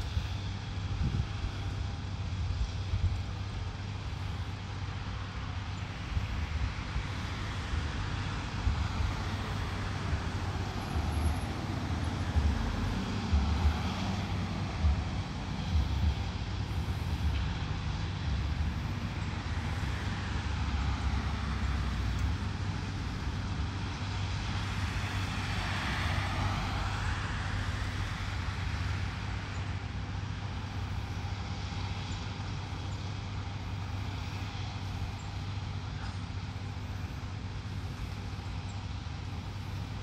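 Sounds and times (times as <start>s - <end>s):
mechanical hum: 0.0s - 40.0s.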